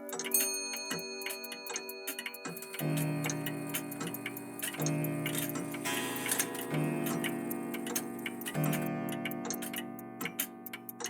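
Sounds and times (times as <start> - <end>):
mechanical clocks ticking: 0.0 - 11.0
soft music of held notes: 0.0 - 11.0.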